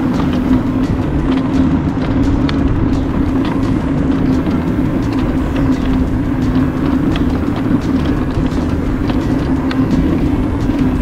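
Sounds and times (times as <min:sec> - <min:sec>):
mobility scooter motor hum: 0:00.0 - 0:11.0
tyre and wind rumble: 0:00.0 - 0:11.0.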